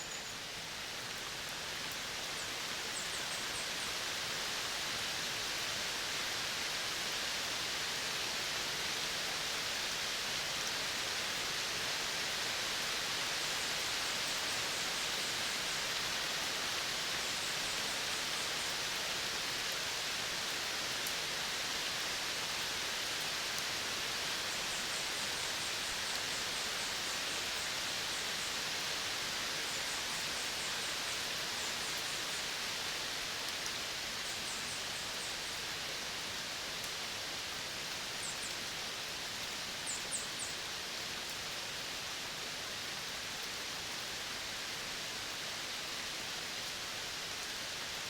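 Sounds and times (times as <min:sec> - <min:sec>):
outdoor nature hiss: 0:00.0 - 0:48.0.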